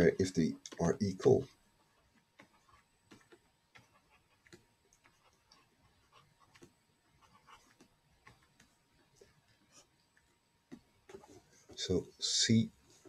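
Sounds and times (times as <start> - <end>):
stylus ticking and scratching on tablet: 0.0 - 13.0.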